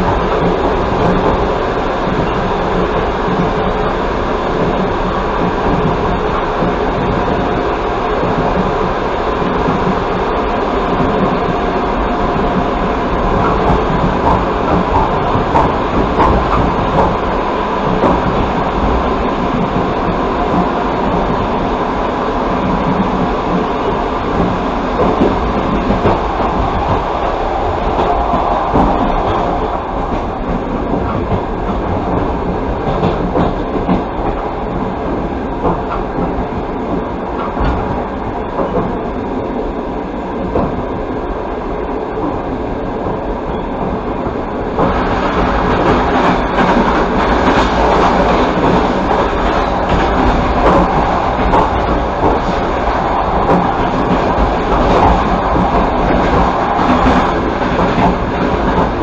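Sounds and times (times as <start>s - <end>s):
train clickety-clack: 0.0s - 59.0s
train wheels rumbling on rails: 0.0s - 59.0s.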